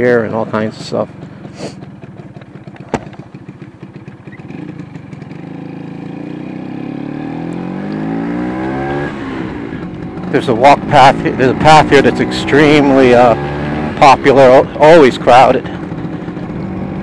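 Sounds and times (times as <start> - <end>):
scooter engine revving: 0.7 - 17.0.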